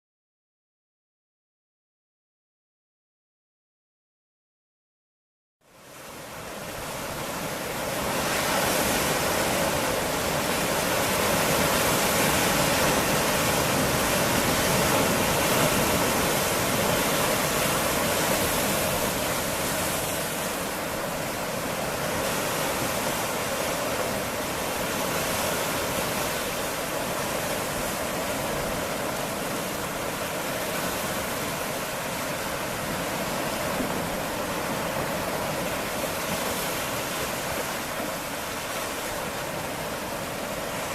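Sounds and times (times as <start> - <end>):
sea waves washing against rocks: 6.2 - 40.9.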